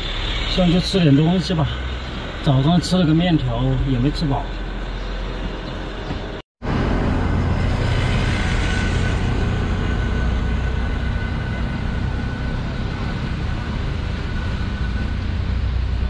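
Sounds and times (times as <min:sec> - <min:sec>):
street traffic passing: 0:00.0 - 0:16.0.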